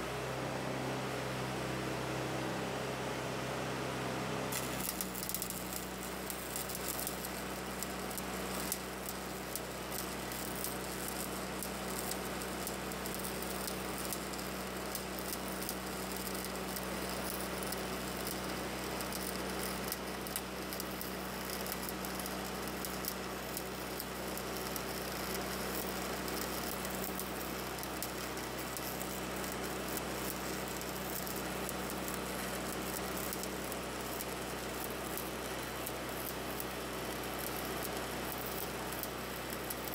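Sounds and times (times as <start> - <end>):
welding arc crackling: 4.5 - 39.9.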